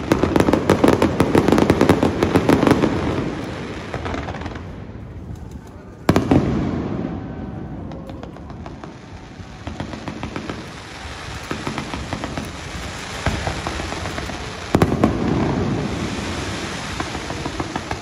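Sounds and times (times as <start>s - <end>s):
fireworks bangs: 0.0s - 18.0s
fireworks crackling pops: 0.0s - 18.0s.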